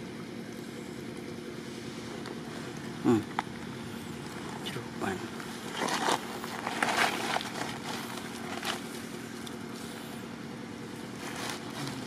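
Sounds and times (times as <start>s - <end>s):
engine running low hum: 0.0s - 12.0s.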